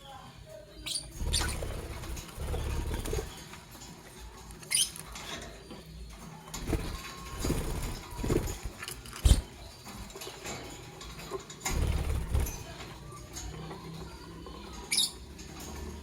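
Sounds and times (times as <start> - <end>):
birds scratching and rustling: 0.4 - 16.0.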